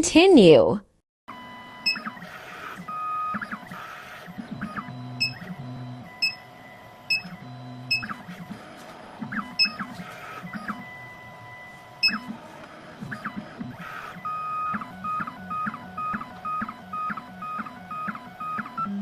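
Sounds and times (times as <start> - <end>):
key cutting machine motor whine: 1.3 - 19.0.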